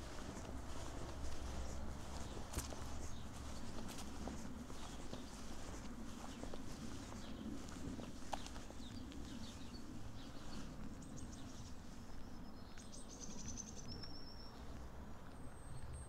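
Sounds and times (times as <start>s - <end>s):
faint outdoor background: 0.0s - 16.0s
songbirds chirping and trilling: 0.0s - 16.0s.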